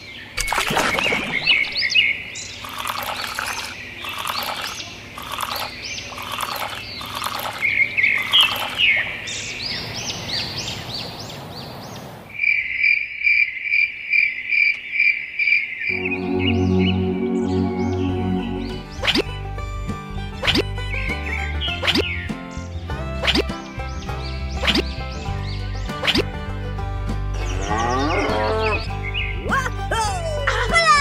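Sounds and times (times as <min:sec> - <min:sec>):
small birds chirping: 0:00.0 - 0:26.3, 0:27.2 - 0:29.9.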